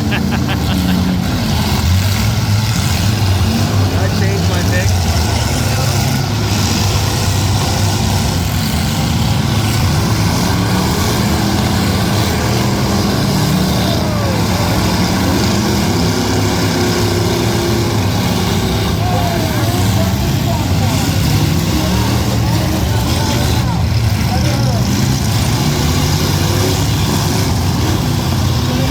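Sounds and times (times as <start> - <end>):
car engines running and revving: 0.0 - 28.9.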